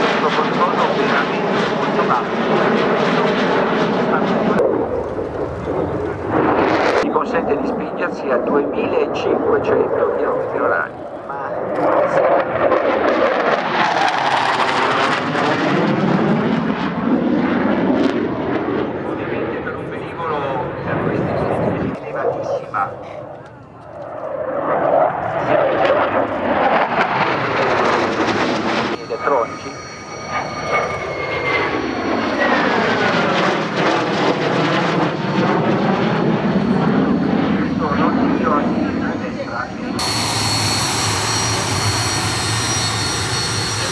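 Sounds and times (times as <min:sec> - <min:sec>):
fighter jet passing: 0:00.0 - 0:43.9.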